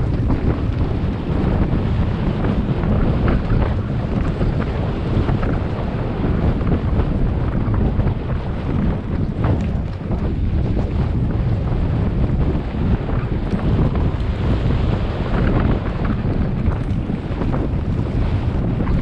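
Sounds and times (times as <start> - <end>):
bike clicking and knocking: 0.0 - 5.8, 6.5 - 19.0
tyres rumbling on dirt trail: 0.0 - 19.0
wind buffeting microphone: 0.0 - 19.0.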